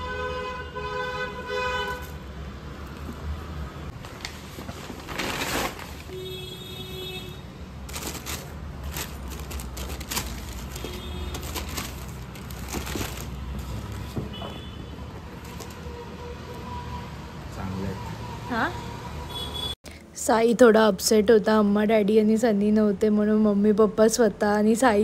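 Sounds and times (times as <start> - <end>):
road traffic rumble: 0.0 - 20.1.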